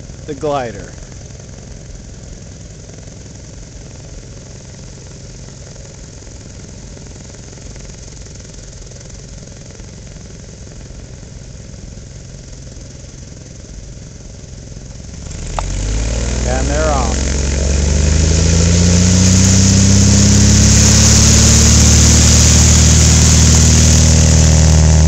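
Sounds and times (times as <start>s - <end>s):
propeller plane engine idling: 0.0s - 25.0s.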